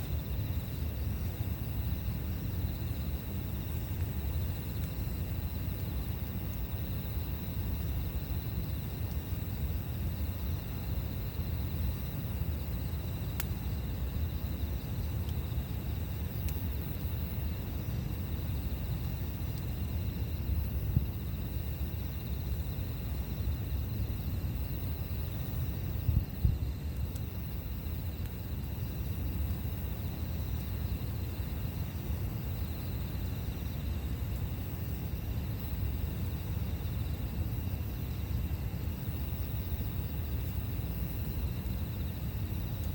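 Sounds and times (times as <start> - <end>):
campfire crackling and popping: 0.0 - 22.1, 22.7 - 36.6, 39.8 - 42.9
faint insect chirring: 0.0 - 42.9.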